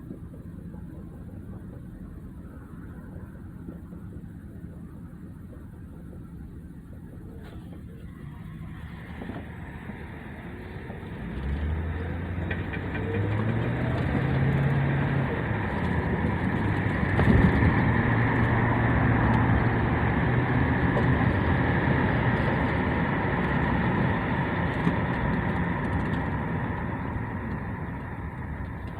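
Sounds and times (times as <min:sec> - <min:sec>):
car engine accelerating: 0:00.0 - 0:28.9
steady high whine: 0:00.0 - 0:28.9.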